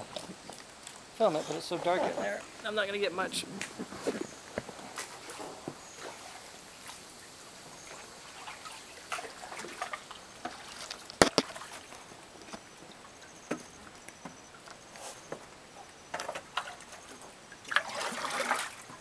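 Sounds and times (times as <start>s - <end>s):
water trickling and lapping: 0.0s - 19.0s.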